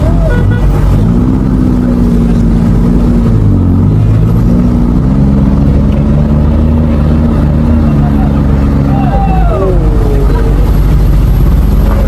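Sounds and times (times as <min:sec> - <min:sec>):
vehicle engine running hard: 0:00.0 - 0:12.0.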